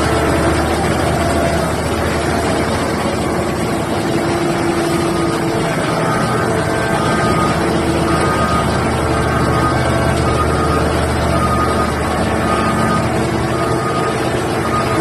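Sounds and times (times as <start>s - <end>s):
excavator diesel engines droning: 0.0s - 15.0s
whining tones: 0.0s - 15.0s.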